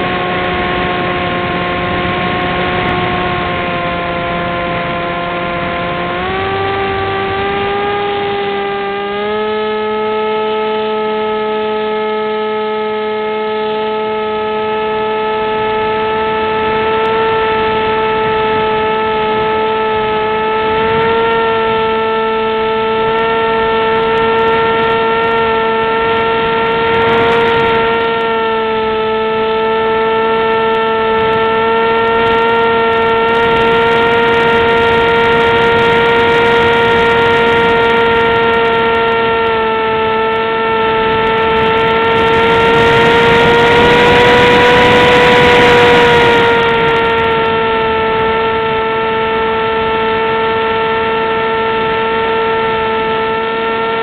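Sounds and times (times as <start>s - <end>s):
model plane motor drone: 0.0s - 54.0s.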